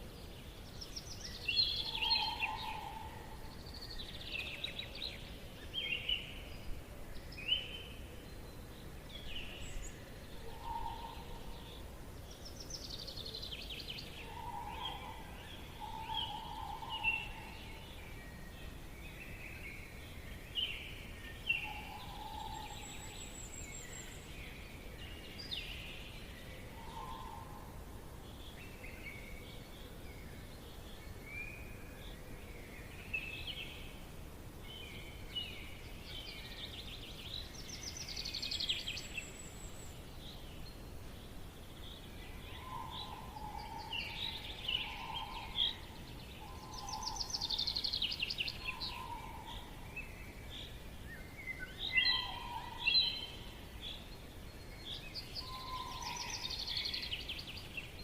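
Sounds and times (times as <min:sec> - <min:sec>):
birds singing and calling: 0:00.0 - 0:58.0
steady low hiss: 0:00.0 - 0:58.0.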